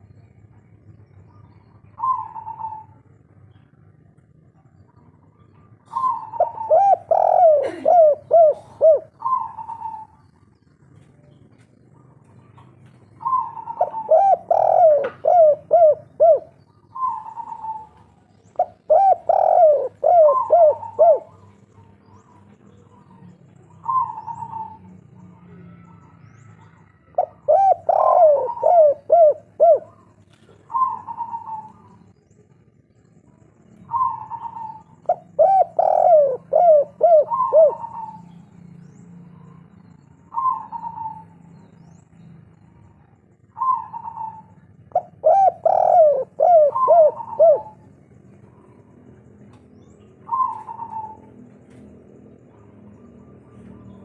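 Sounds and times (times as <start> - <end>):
faint low hum: 0.0 - 54.0
dove cooing: 1.1 - 11.2, 11.9 - 32.7, 33.7 - 38.4, 39.3 - 41.9, 42.6 - 54.0.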